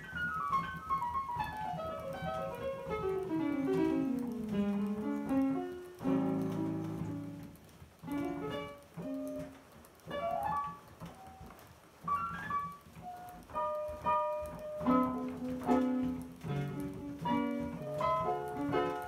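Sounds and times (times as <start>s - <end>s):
synthesizer piano runs and chords: 0.0s - 19.0s.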